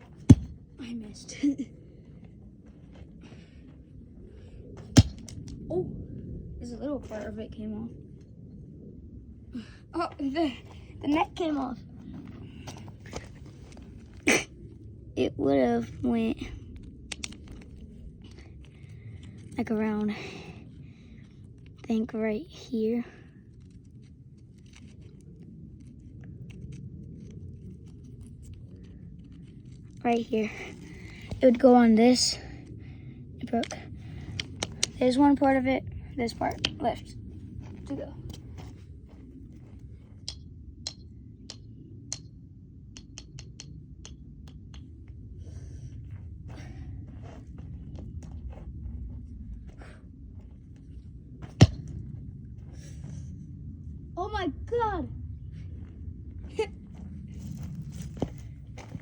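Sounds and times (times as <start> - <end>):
low rumble on microphone: 0.0 - 43.0, 43.6 - 59.0.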